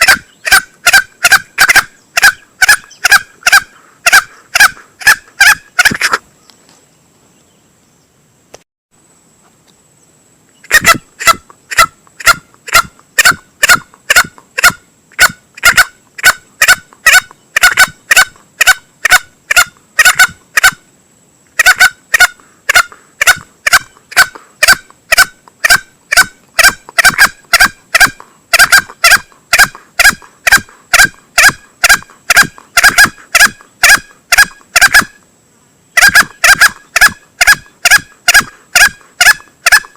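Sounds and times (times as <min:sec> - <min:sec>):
junglefowl calls: 0:00.0 - 0:06.3, 0:10.6 - 0:20.8, 0:21.6 - 0:35.2, 0:36.0 - 0:39.9.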